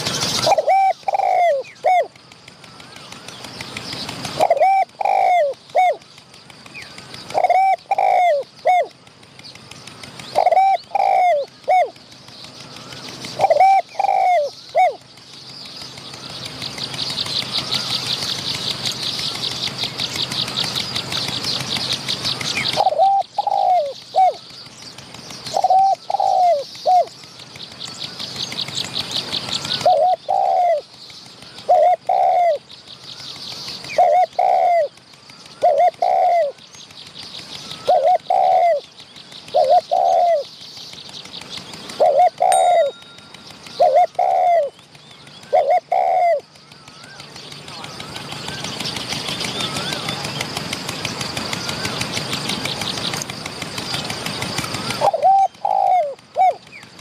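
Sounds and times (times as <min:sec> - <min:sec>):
doves cooing: 0:00.0 - 0:15.1, 0:15.9 - 0:40.6, 0:41.3 - 0:57.0
high fast-pulsing buzz: 0:00.0 - 0:57.0.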